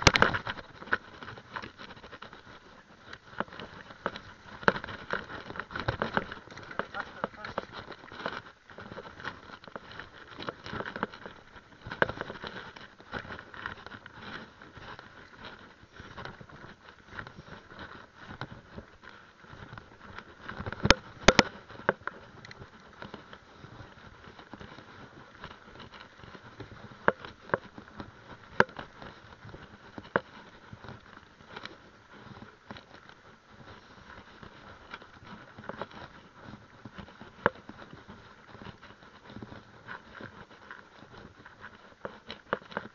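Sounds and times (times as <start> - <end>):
bike tyres and frame rattling: 0.0 - 42.9.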